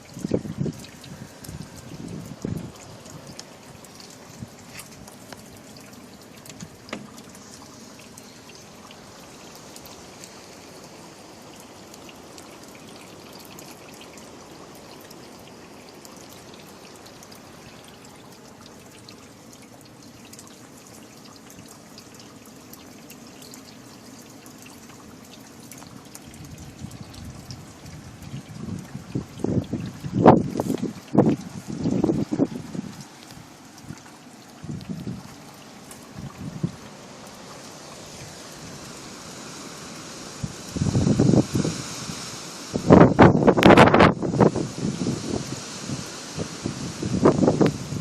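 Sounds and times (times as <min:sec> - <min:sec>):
steady rain: 0:00.0 - 0:48.0
trickling runoff: 0:00.0 - 0:48.0.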